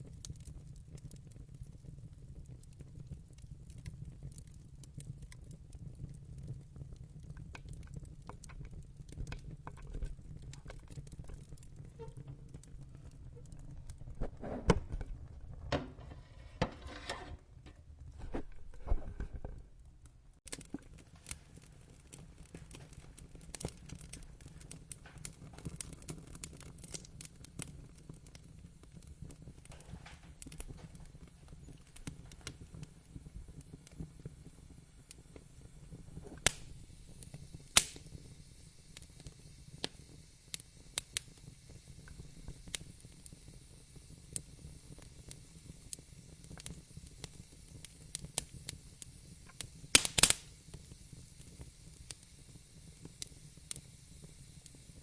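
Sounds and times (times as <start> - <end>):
low rumble of burning: 0.0 - 55.0
wood fire crackling: 0.0 - 55.0.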